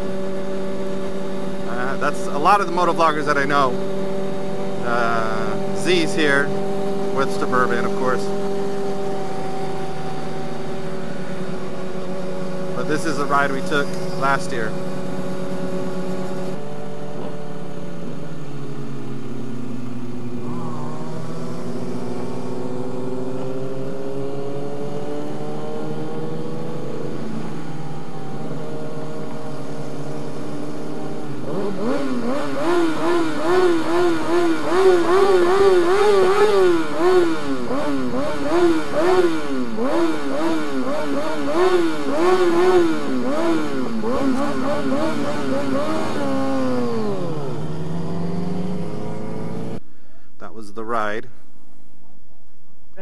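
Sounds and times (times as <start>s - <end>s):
motorcycle engines revving: 0.0s - 49.8s.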